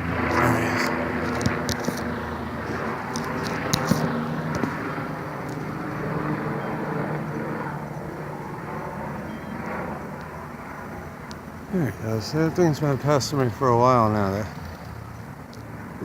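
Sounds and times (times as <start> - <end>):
helicopter rotor and engine: 0.0 - 16.0.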